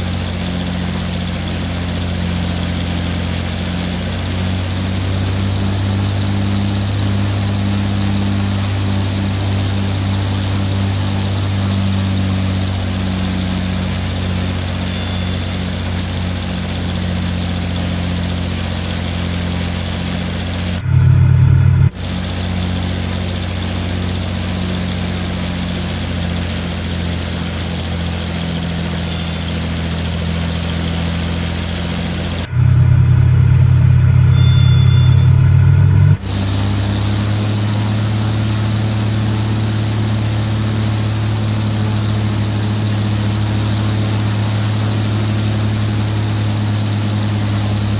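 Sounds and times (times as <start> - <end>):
propeller plane engine running: 0.0 - 47.9.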